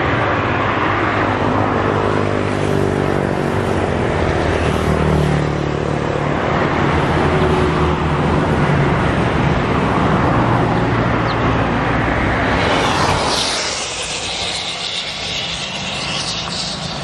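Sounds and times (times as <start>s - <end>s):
broad rushing noise: 0.0s - 17.0s.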